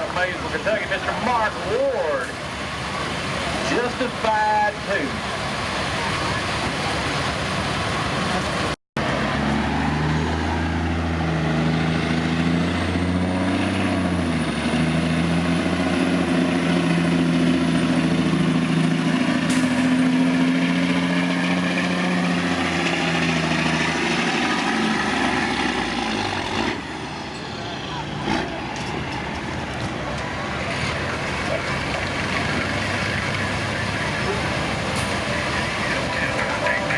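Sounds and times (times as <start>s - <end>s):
diesel truck engine under load: 0.0s - 36.9s.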